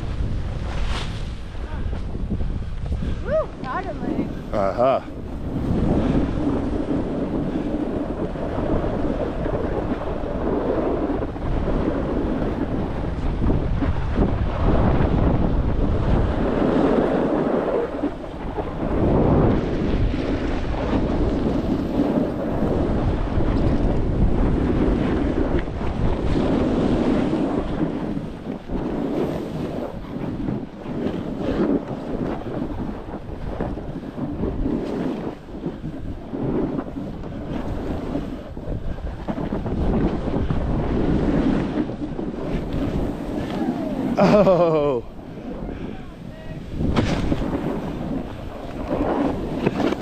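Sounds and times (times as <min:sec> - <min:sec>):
snowboard sliding on snow: 0:00.0 - 0:50.0
wind rushing over microphone: 0:00.0 - 0:50.0.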